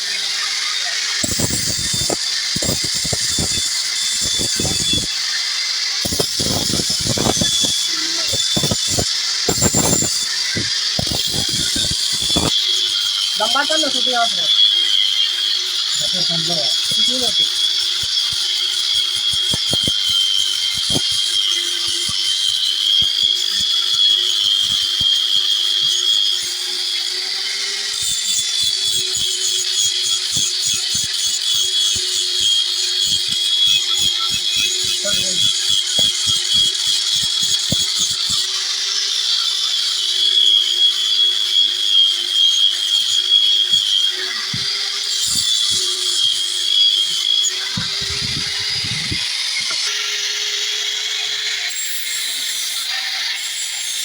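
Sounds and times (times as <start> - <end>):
power tool whining on metal: 0.0 - 54.0.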